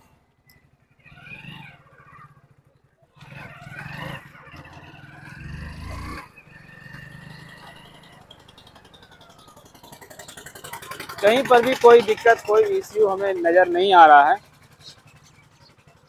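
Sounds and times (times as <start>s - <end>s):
motorcycle engine running: 0.0s - 16.0s
loud wavering calls: 0.9s - 16.0s.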